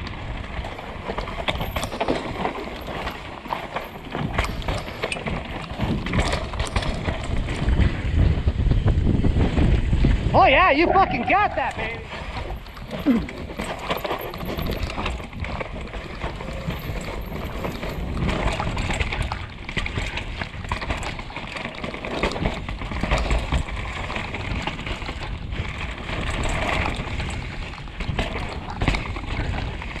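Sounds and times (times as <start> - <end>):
bike rattling: 0.0 - 30.0
tyres rolling over dirt and stones: 0.0 - 30.0.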